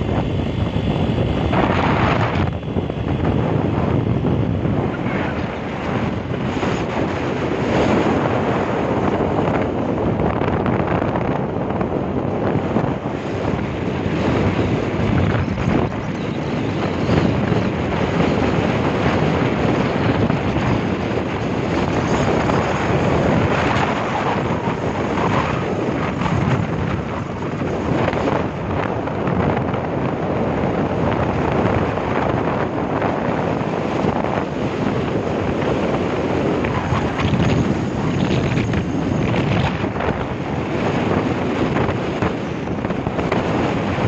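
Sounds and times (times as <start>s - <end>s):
road and engine noise: 0.0s - 44.0s
wind rushing over microphone: 0.0s - 44.0s.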